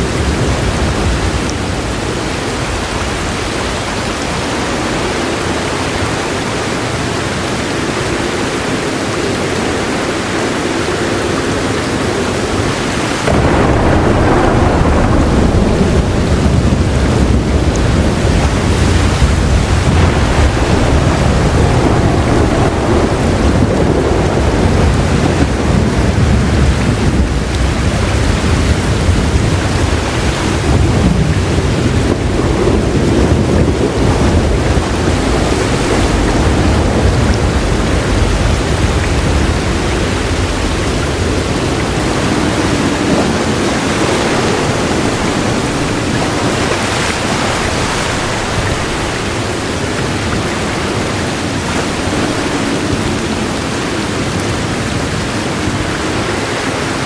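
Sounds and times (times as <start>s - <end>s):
heavy rain pouring: 0.0s - 57.0s
rolling thunder rumble: 0.0s - 57.0s.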